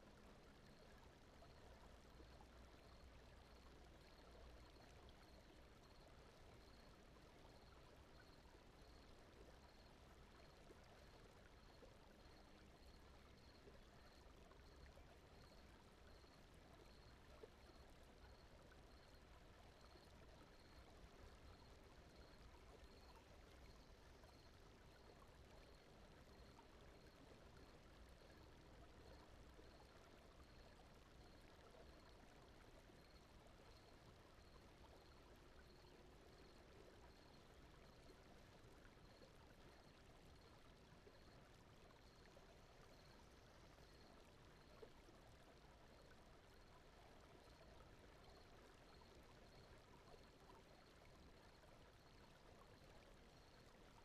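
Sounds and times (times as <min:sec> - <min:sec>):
faint ambient noise: 0:00.0 - 0:54.0.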